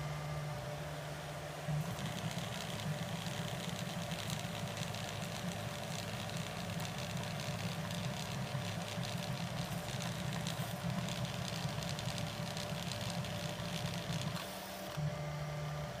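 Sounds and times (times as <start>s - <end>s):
stepper motors buzzing: 1.7s - 15.0s.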